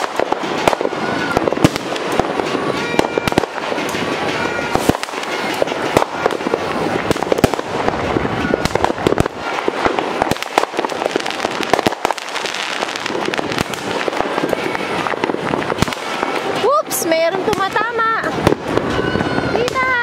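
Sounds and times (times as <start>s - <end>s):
fireworks and firecrackers crackling: 0.0s - 20.0s.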